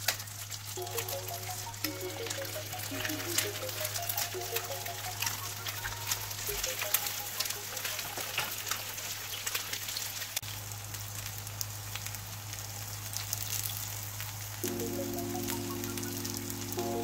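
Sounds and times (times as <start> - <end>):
food sizzling in oil: 0.0 - 17.0
oil crackling and popping: 0.0 - 17.0.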